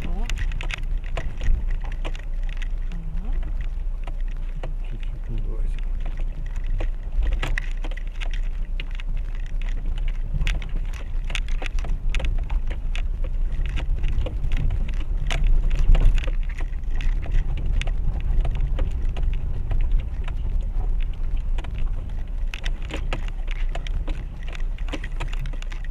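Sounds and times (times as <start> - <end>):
car engine and tyres rumbling: 0.0 - 25.9
stones knocking under wheels: 0.0 - 25.9.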